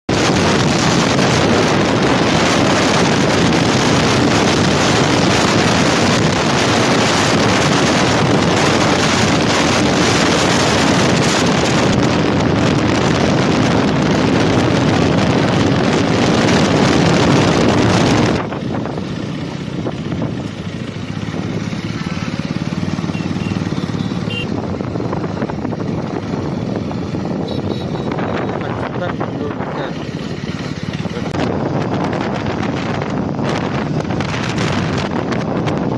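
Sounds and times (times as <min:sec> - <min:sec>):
motorcycle engine running: 0:00.1 - 0:35.9
wind rush on microphone: 0:00.1 - 0:35.9.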